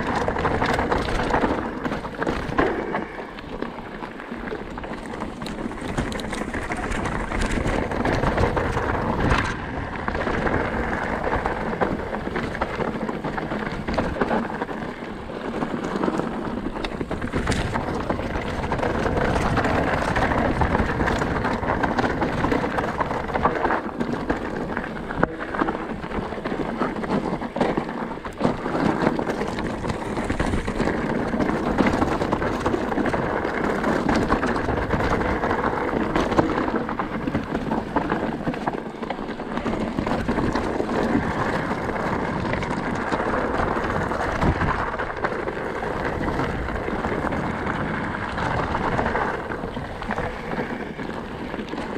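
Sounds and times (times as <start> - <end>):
bike rattling: 0.0 - 51.9
bike tyres crunching over stones: 0.0 - 51.9
steady rushing noise: 0.0 - 51.9.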